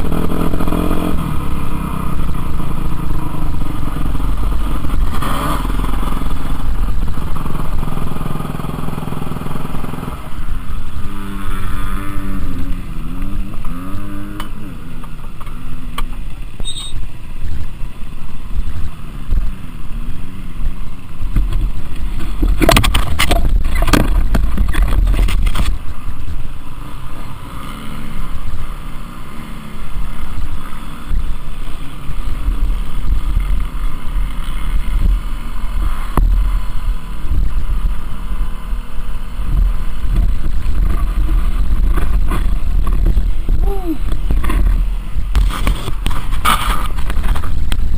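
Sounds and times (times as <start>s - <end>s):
motocross bikes revving: 0.0s - 47.9s.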